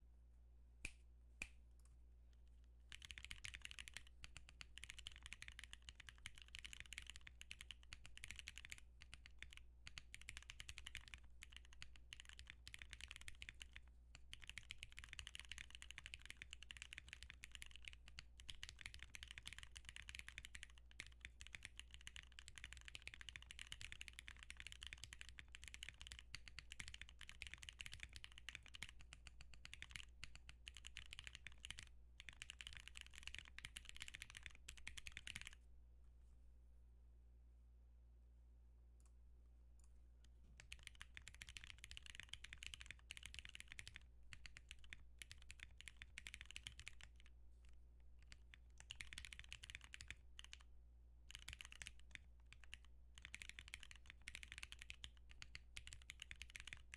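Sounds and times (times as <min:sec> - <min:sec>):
mechanical keyboard typing: 0:02.9 - 0:35.6, 0:40.6 - 0:47.3, 0:48.2 - 0:50.6, 0:51.3 - 0:56.9.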